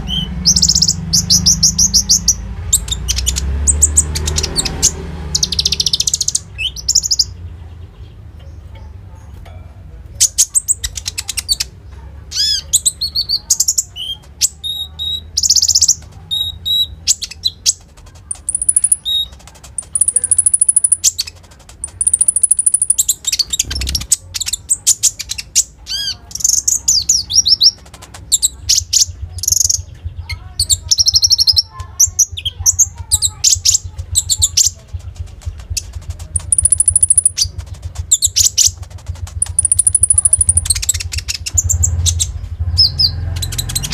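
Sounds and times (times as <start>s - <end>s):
sunbird chirping and trilling: 0.0s - 9.0s, 10.1s - 43.9s.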